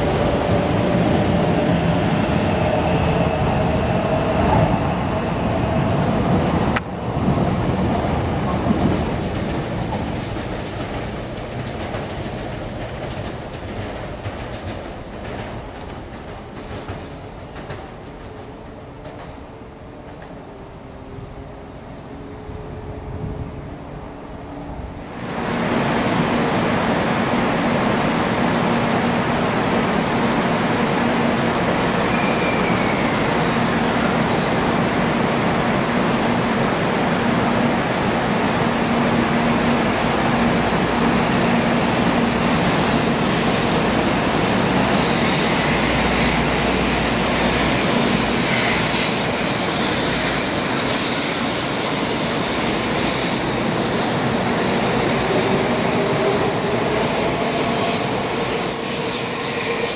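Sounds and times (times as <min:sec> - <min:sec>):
train rushing past: 0:00.0 - 0:59.9.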